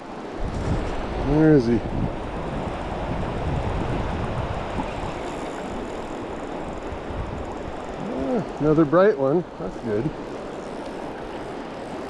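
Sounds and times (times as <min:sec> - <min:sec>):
river water rushing: 0:00.0 - 0:12.0
wind buffeting microphone: 0:00.0 - 0:12.0.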